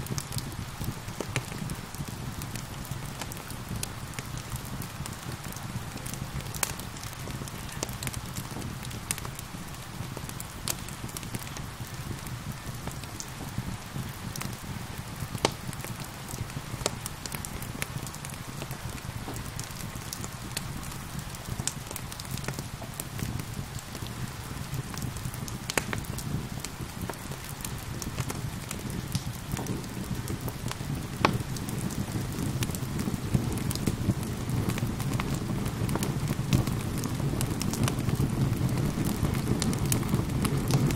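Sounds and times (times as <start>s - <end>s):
gentle rain hiss: 0.0s - 40.9s
wood fire crackling: 0.0s - 40.9s.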